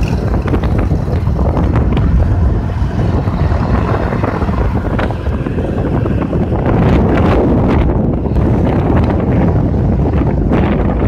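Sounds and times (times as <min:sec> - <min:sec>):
petrol engine running: 0:00.0 - 0:11.0
wind noise on microphone: 0:00.0 - 0:11.0.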